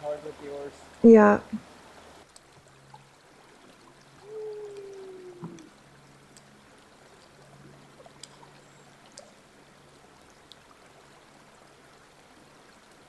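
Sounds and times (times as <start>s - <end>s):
river water rushing and trickling: 0.0s - 13.0s
small high ticks and drips: 1.6s - 13.0s.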